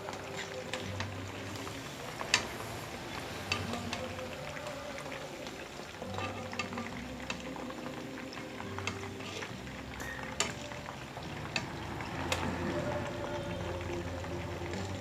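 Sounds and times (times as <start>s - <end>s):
chicken deep-frying sizzle: 0.0s - 15.0s.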